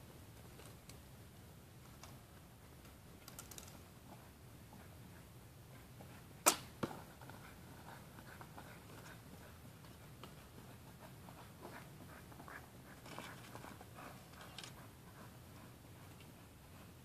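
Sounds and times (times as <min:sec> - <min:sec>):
faint rustling and scratching: 0:01.8 - 0:17.0.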